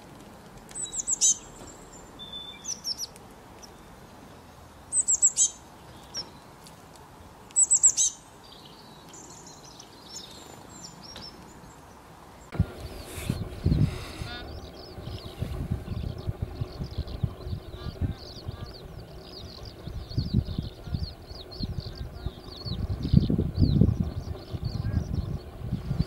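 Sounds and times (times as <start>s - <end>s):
songbird chirping: 0.7s - 6.8s, 7.4s - 26.0s.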